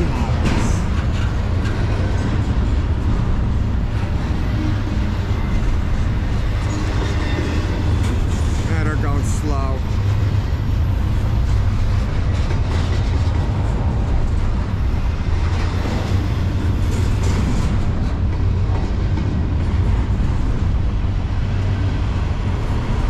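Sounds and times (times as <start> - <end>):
faint train clanks: 0.0 - 23.0
freight train rumbling on rails: 0.0 - 23.0.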